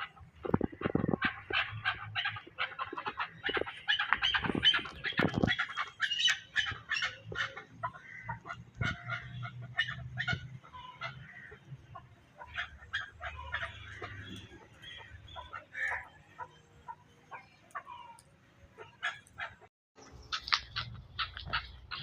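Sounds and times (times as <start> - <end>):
fowl-like birds calling: 0.0 - 22.0.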